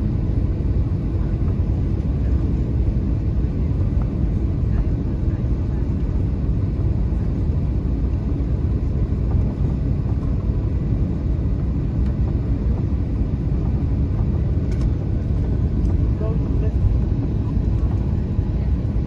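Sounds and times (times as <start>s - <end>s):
airflow round airframe: 0.0s - 19.0s
jet engines rumbling in cabin: 0.0s - 19.0s.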